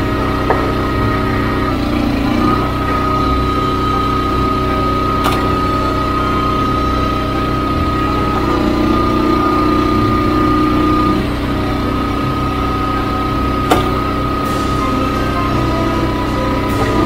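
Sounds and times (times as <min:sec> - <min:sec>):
log splitter engine running: 0:00.0 - 0:17.0.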